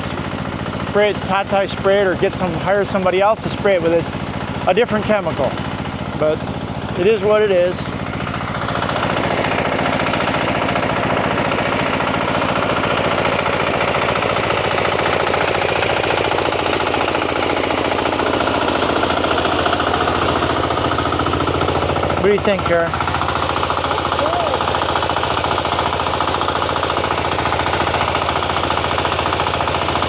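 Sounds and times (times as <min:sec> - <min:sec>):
engine running with knocking beat: 0:00.0 - 0:30.0.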